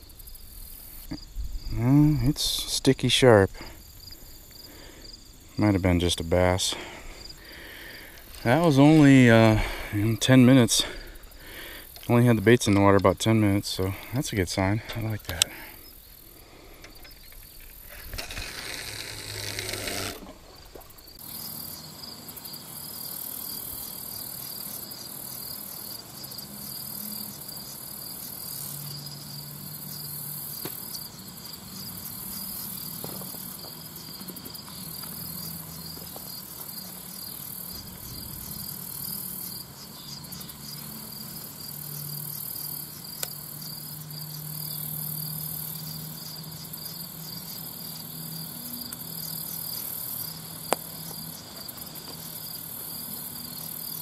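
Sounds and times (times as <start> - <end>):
crickets and insects trilling: 0.0 - 54.0.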